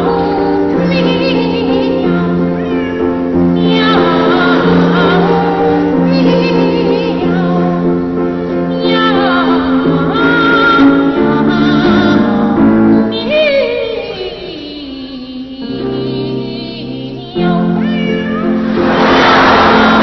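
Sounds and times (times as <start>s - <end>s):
grand piano accompaniment: 0.0s - 20.0s
music: 0.0s - 20.0s.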